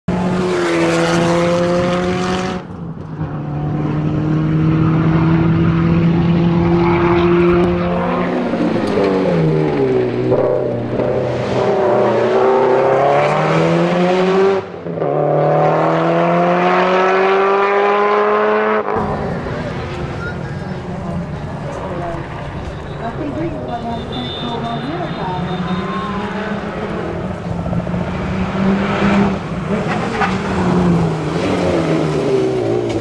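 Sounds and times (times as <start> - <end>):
rally car engine accelerating: 0.1 - 23.2, 25.4 - 33.0.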